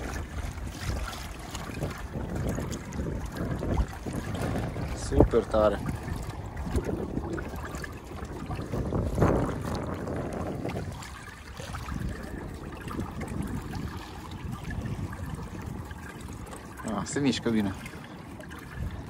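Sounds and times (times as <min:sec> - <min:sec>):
water splashing against kayak hull: 0:00.0 - 0:19.0
wind on microphone: 0:00.0 - 0:19.0.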